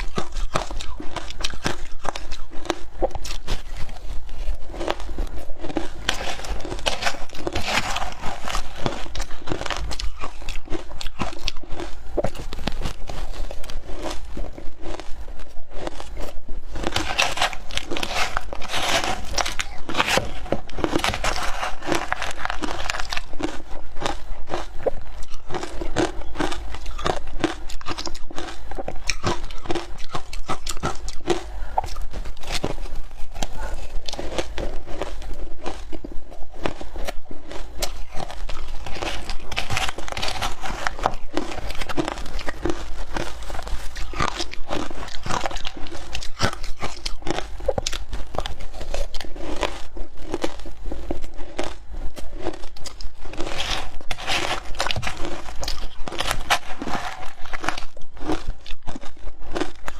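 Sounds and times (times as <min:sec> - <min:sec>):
ice being chewed crunching: 0:00.0 - 0:59.9.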